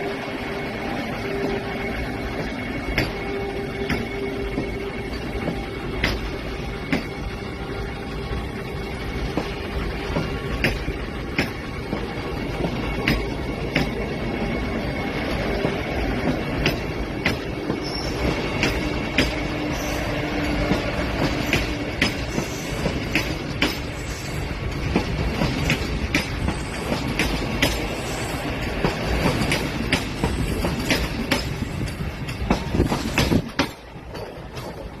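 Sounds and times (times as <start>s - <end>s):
train rumbling on rails: 0.0s - 35.0s
wheels clicking over rail joints: 2.3s - 7.3s, 8.2s - 14.1s, 15.3s - 35.0s.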